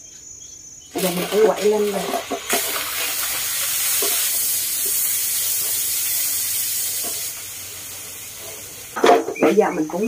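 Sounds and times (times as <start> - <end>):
water boiling with steam hiss: 0.9 - 10.0.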